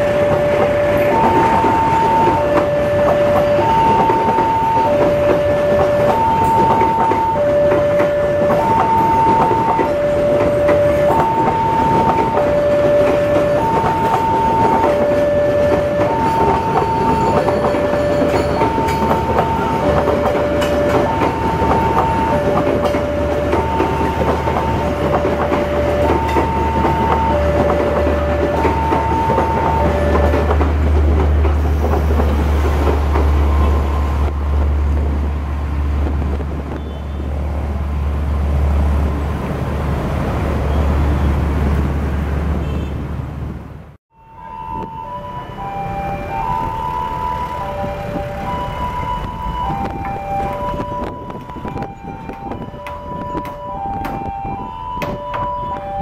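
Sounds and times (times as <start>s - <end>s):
two-tone crossing warning siren: 0.0s - 36.6s, 44.1s - 56.0s
train wheels clickety-clack: 0.0s - 37.3s, 47.8s - 56.0s
traffic engine rumble: 0.0s - 56.0s.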